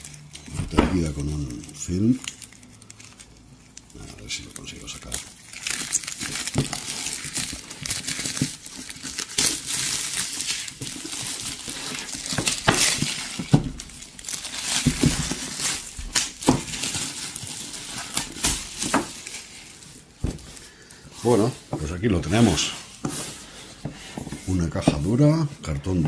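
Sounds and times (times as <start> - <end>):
plastic film crinkling: 0.0 - 26.0.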